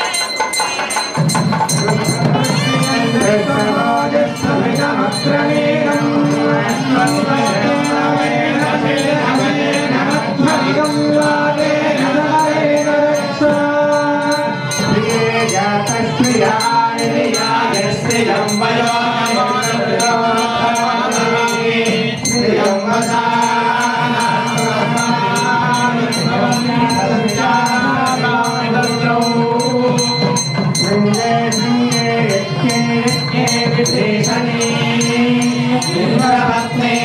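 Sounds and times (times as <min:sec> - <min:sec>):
devotional singing with instruments: 0:00.0 - 0:37.0.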